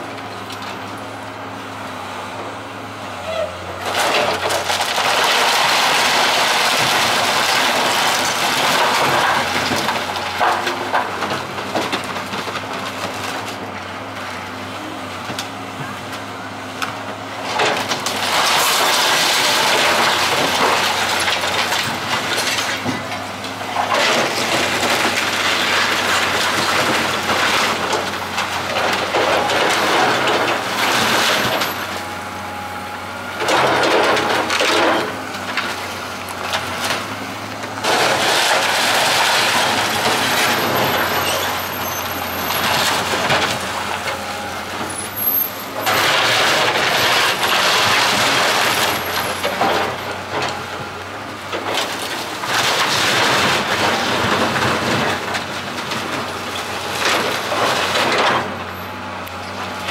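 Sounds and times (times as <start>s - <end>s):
excavator diesel engine running: 0.0s - 59.9s
timber framing crunching and crashing: 3.8s - 16.3s, 16.9s - 59.9s.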